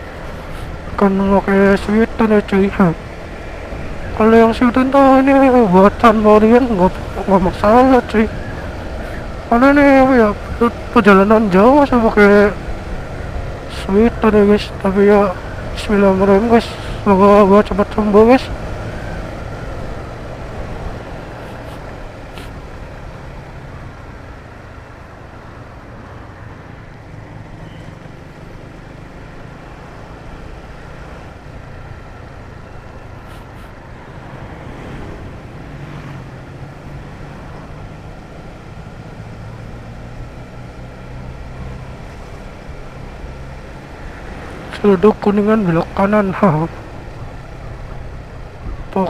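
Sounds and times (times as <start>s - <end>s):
road and traffic noise: 0.0s - 49.0s.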